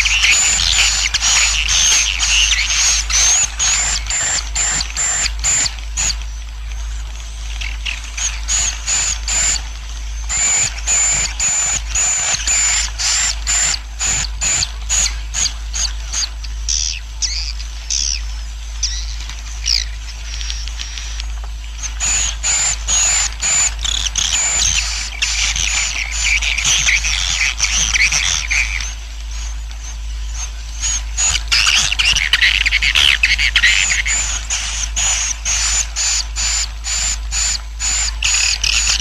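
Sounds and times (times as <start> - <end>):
swiftlets twittering: 0.0 - 7.0, 7.6 - 39.0
steady low hum: 0.0 - 39.0.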